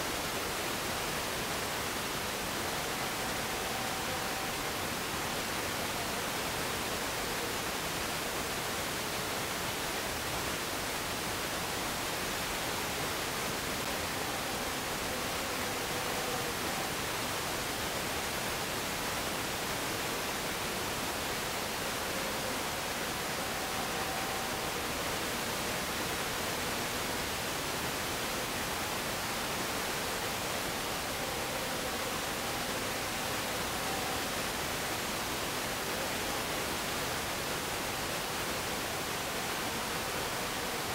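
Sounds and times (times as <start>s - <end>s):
faint steady tones: 0.0s - 40.9s
static hiss: 0.0s - 40.9s.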